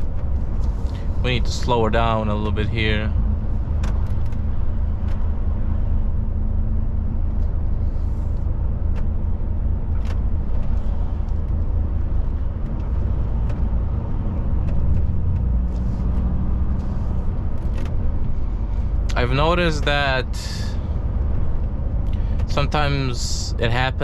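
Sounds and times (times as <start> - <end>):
road noise inside cab: 0.0 - 24.0
truck diesel engine rumble: 0.0 - 24.0.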